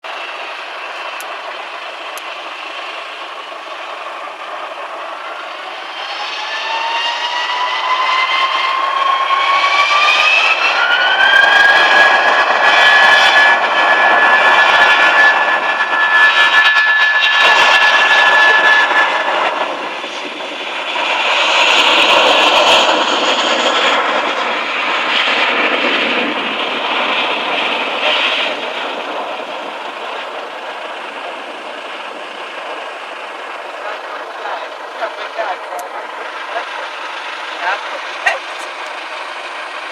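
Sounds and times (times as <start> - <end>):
jet engine whine: 0.0 - 39.9
loud jet roar: 0.0 - 39.9.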